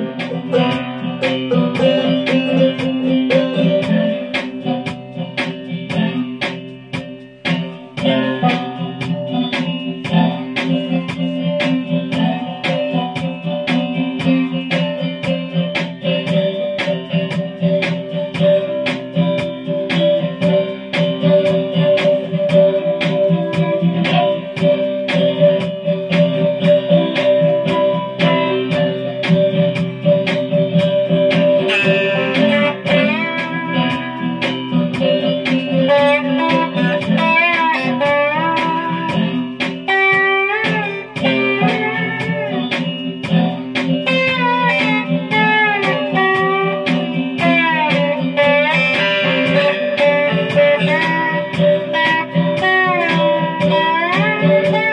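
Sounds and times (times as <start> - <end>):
slide guitar: 0.0 - 54.9.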